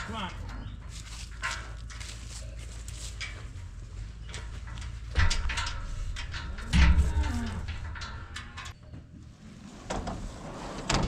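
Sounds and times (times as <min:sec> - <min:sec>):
hooves clattering: 0:00.0 - 0:09.0.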